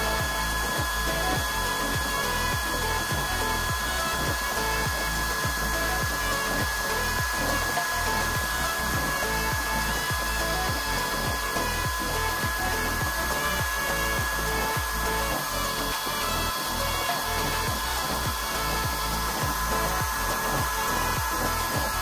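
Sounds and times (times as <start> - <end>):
electric air blower whirring: 0.0 - 22.0.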